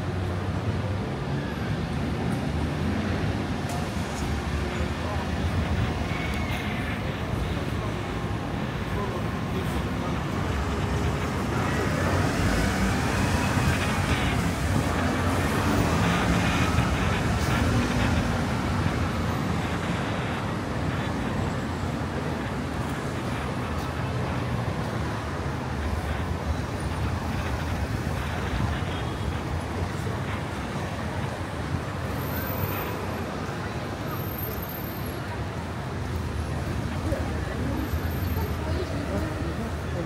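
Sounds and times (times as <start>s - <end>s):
passing cars rumble: 0.0s - 32.2s.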